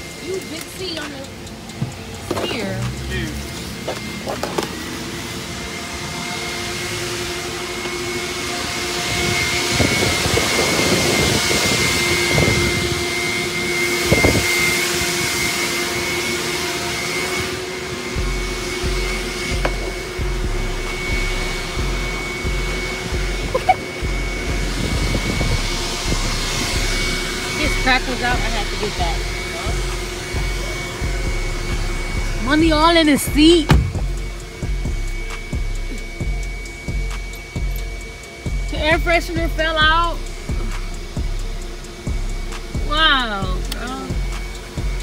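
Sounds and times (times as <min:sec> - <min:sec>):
vacuum motor whine and air rush: 0:00.0 - 0:45.0.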